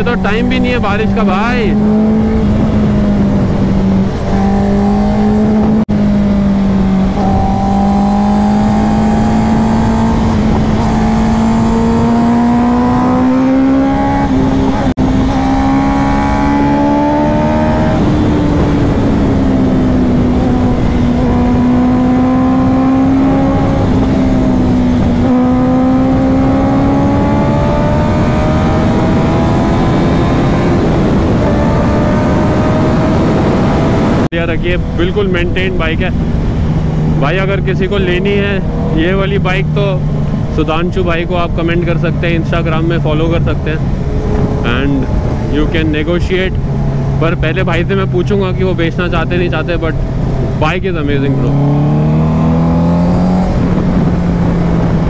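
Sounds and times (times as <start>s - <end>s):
wind rushing: 0.0s - 55.0s.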